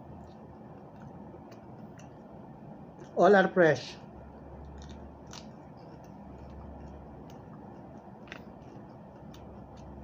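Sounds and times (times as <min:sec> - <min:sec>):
person chewing raw vegetables: 0:00.0 - 0:03.2, 0:04.5 - 0:10.0
low steady hum: 0:00.0 - 0:10.0.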